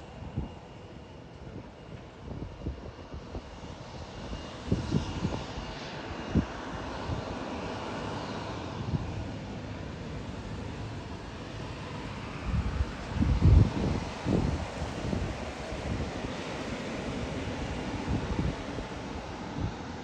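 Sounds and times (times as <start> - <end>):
airliner engine noise: 0.0 - 20.0.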